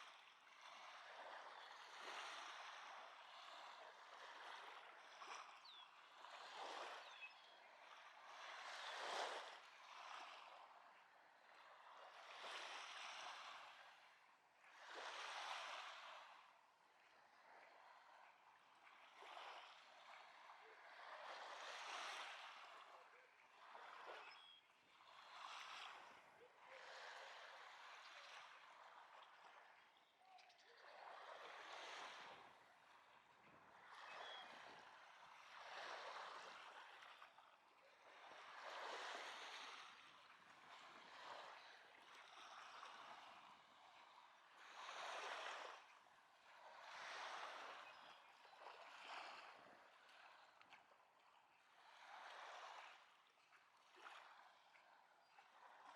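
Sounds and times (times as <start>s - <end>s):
small waves washing onto sand: 0.0s - 55.9s.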